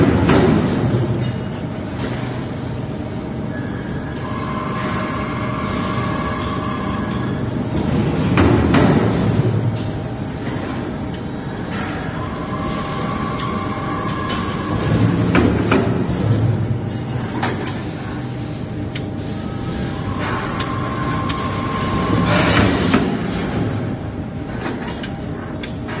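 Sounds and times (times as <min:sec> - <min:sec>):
forging press hum and whine: 0:00.0 - 0:26.0.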